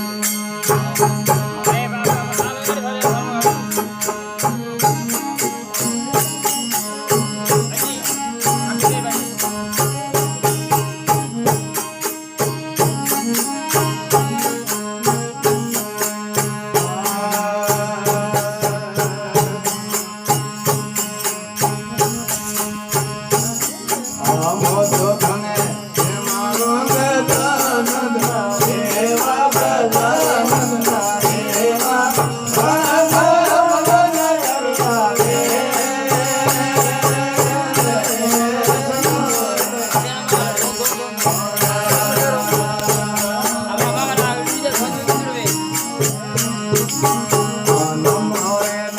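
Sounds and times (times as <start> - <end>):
sharp metallic percussion strikes: 0.0 - 48.9.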